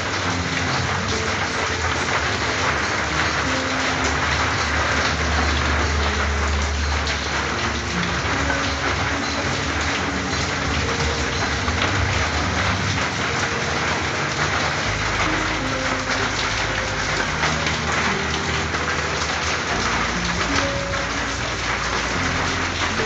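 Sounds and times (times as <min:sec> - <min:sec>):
rain on a tin roof: 0:00.0 - 0:23.0.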